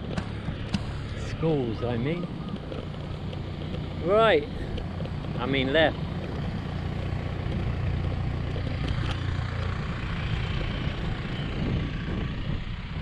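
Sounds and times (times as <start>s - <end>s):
bicycle tyre road noise: 0.0s - 13.0s
wind buffeting microphone: 0.0s - 13.0s.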